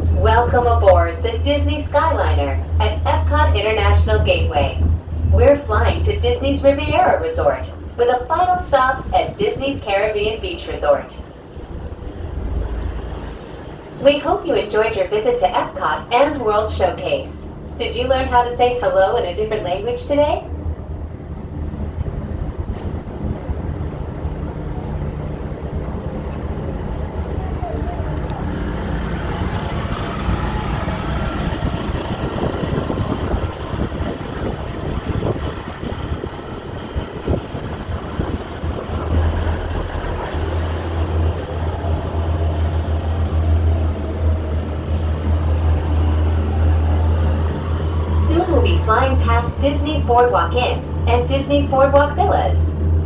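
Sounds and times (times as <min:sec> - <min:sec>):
low rumble in gondola cabin: 0:00.0 - 0:53.0
wind noise: 0:00.0 - 0:53.0.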